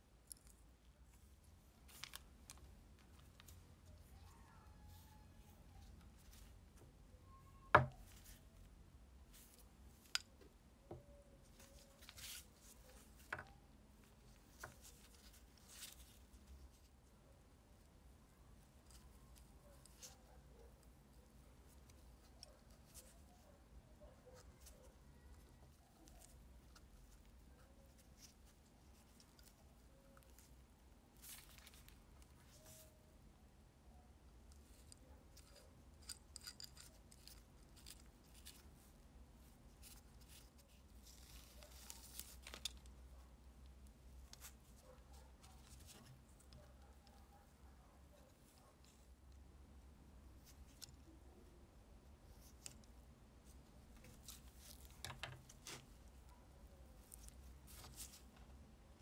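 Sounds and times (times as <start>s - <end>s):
soft rustling: 0.0s - 33.2s, 34.5s - 59.0s.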